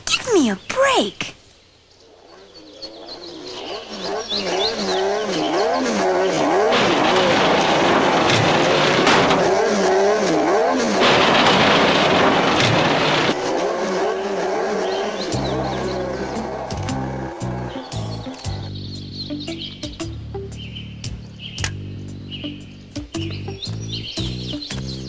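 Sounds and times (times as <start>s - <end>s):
race car engines revving: 2.1s - 25.0s.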